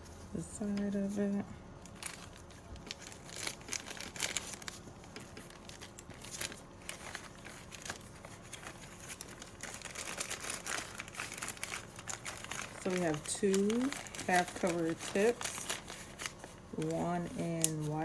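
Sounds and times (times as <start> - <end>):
plastic bag crinkling: 0.9 - 18.0.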